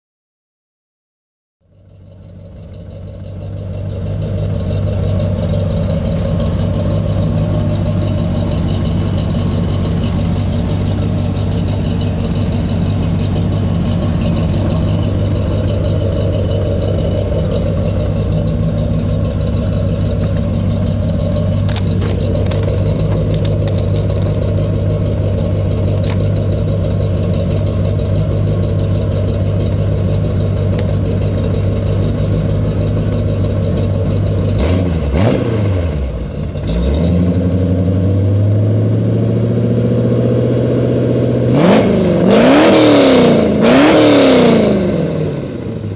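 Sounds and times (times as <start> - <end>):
car engine idling: 1.6 - 45.9.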